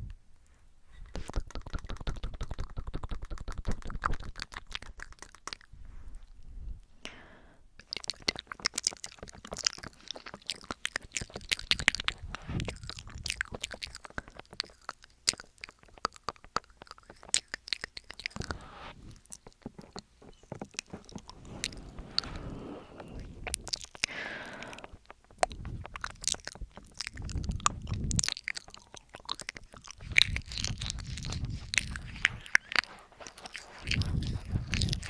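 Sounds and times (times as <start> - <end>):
tongue and lip clicks: 0.9 - 5.8, 7.8 - 35.0.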